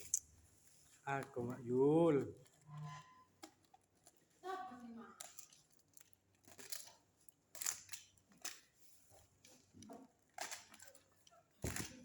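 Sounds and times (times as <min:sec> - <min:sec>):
packaging rustling and crinkling: 0:00.5 - 0:12.0.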